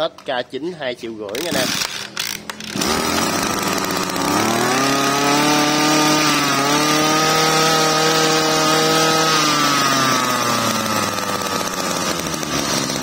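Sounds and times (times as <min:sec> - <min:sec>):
brush cutter engine running: 0:01.2 - 0:13.0.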